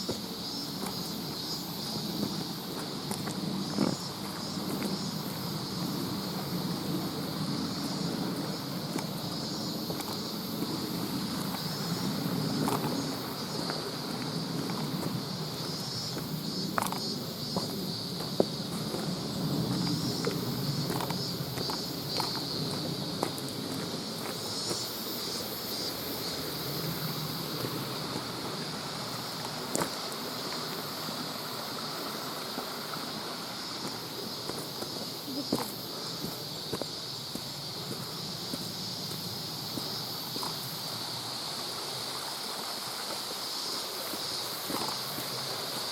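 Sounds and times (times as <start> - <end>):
mountain stream rushing: 0.0 - 45.9.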